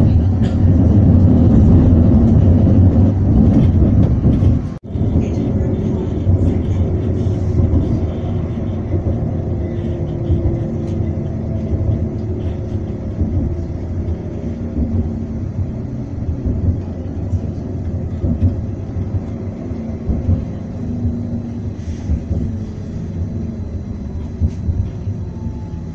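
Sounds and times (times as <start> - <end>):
tram wheels rumbling on rails: 0.0 - 25.9.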